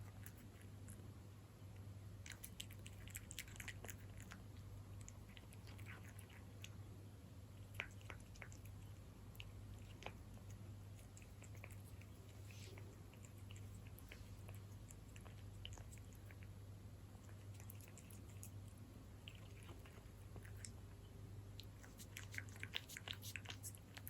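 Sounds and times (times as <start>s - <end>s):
cat chewing wet food: 0.0s - 24.0s
low steady hum: 0.0s - 24.0s.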